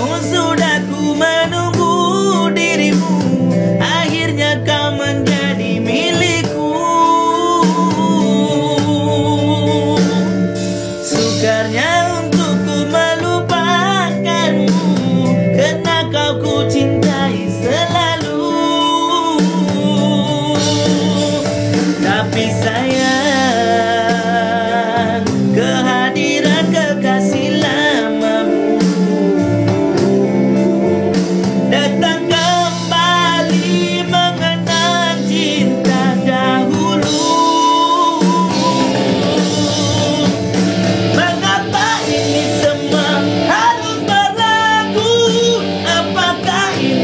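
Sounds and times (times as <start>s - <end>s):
electronic keyboard chords: 0.0s - 47.0s
man singing with vibrato: 0.0s - 47.0s.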